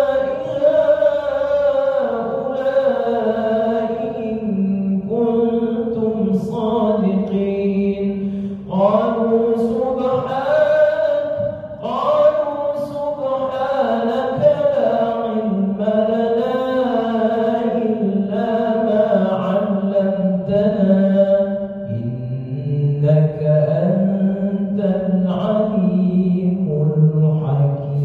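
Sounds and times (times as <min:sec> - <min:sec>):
man chanting recitation: 0:00.0 - 0:28.0.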